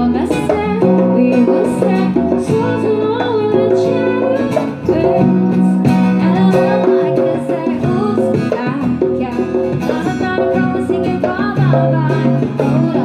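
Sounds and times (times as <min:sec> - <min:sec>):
hand drum beat: 0:00.0 - 0:13.0
strummed acoustic guitar: 0:00.0 - 0:13.0
woman singing: 0:00.0 - 0:13.0.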